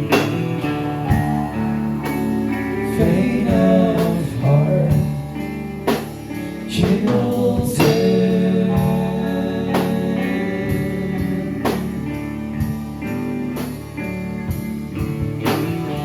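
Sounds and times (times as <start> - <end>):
bending guitar notes: 0.0 - 16.0
live rock band playing: 0.0 - 16.0.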